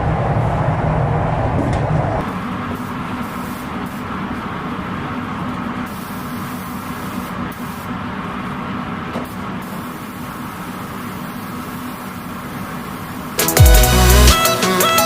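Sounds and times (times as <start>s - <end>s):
steady low hum: 0.0s - 13.4s
spray gun hissing: 2.2s - 8.6s, 9.2s - 15.0s.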